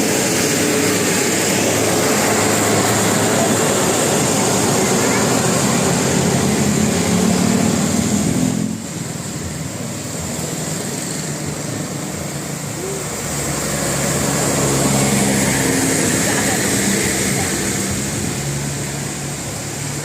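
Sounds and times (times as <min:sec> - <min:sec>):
bus engine running: 0:00.0 - 0:20.0
steady high hiss: 0:00.0 - 0:20.0.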